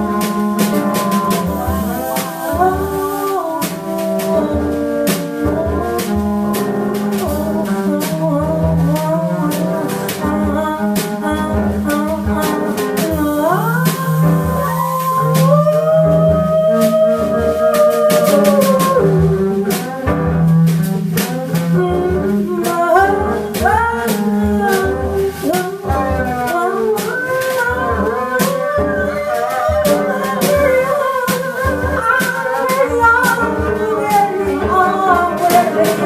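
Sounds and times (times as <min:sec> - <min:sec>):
drum kit with cymbal ticks: 0:00.0 - 0:36.0
piano: 0:00.0 - 0:36.0
plucked upright bass: 0:00.0 - 0:36.0
woman singing: 0:00.0 - 0:36.0.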